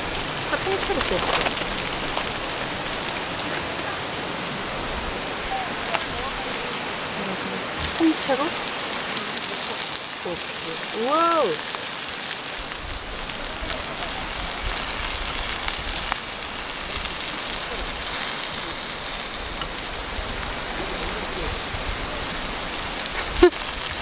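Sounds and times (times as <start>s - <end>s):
meat sizzling on grill plate: 0.0s - 24.0s.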